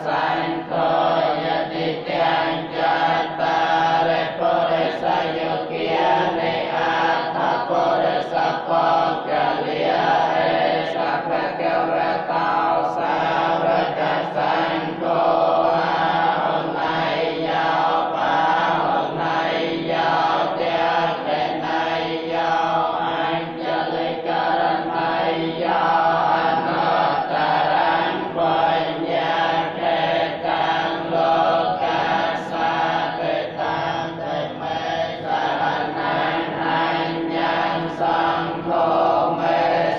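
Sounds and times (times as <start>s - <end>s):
monks chanting in unison: 0.0s - 39.9s.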